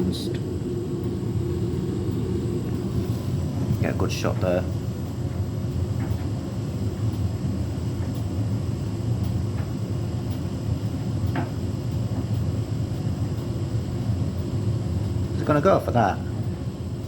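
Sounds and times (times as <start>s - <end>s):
washing machine drum rumbling: 0.0s - 17.0s.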